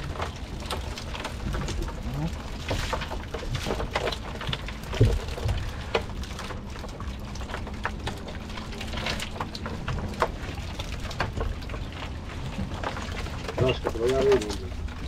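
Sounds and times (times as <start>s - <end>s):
fish flapping and slapping: 0.0s - 15.0s
water dripping: 0.0s - 15.0s.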